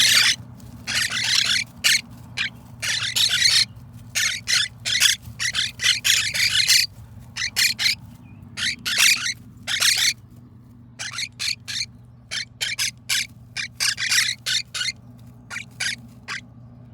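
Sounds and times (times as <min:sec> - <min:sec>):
parrot chicks squawking: 0:00.0 - 0:10.2, 0:11.0 - 0:16.5
steady low hum: 0:00.0 - 0:16.9.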